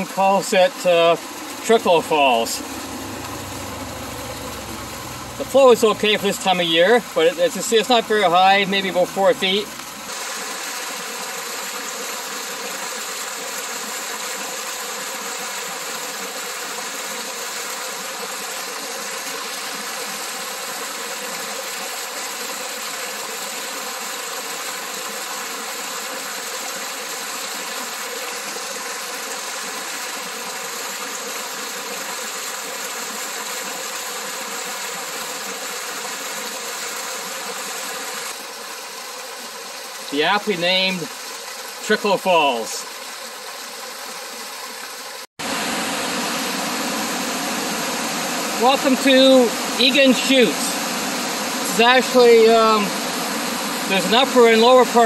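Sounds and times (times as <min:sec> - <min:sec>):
small waterfall rushing: 0:00.0 - 0:55.0.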